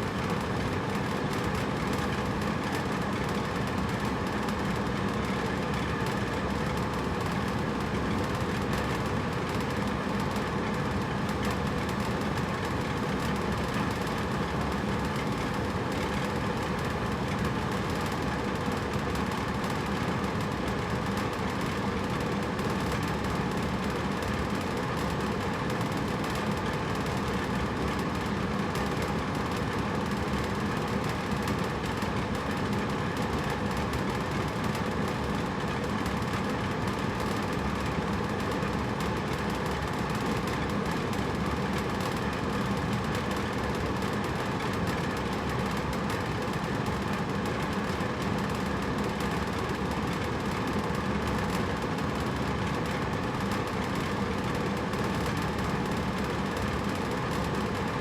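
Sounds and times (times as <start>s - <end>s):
air conditioner fan whoosh: 0.0s - 58.0s.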